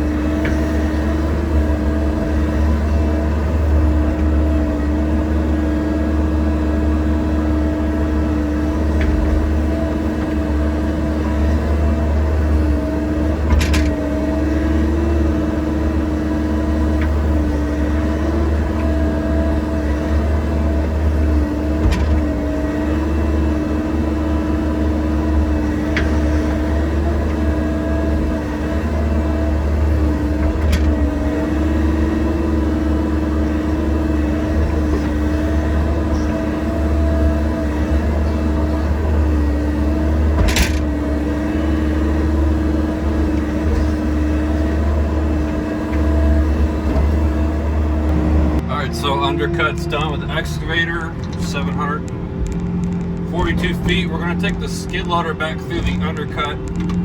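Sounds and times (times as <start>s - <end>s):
diesel engine droning under load: 0.0s - 57.0s
steady whine: 0.0s - 57.0s.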